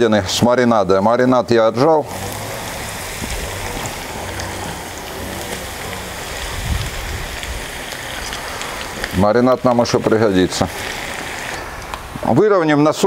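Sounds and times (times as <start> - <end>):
meat and onions sizzling in oil: 0.6 - 12.3.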